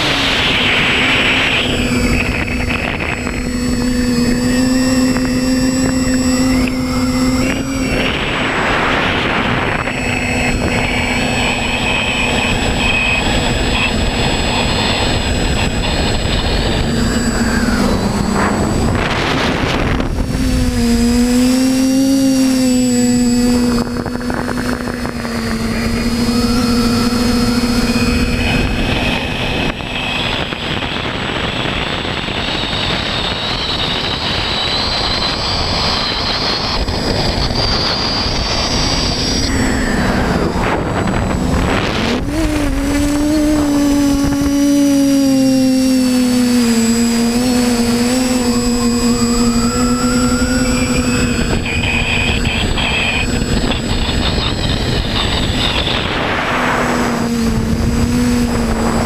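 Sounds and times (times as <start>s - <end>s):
drone motors buzzing whine: 0.0s - 59.0s
wind rush: 0.0s - 59.0s.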